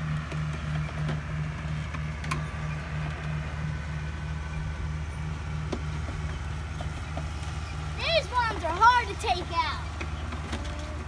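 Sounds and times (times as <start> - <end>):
tractor engine throbbing drone: 0.0 - 11.0.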